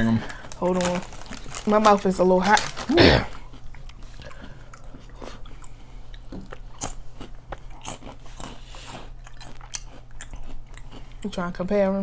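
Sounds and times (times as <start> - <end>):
faint steady hum: 0.0 - 12.0
crunchy chewing: 0.2 - 11.4.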